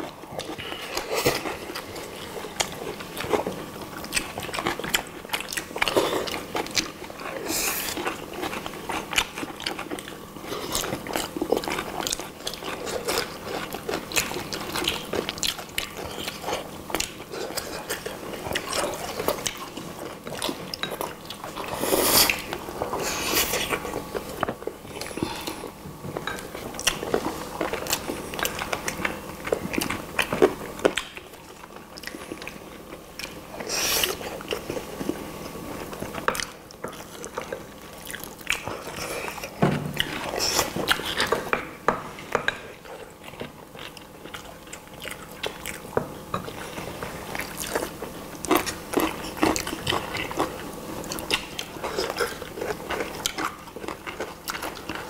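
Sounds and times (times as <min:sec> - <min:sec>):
people chewing chicken: 0:00.0 - 0:55.0.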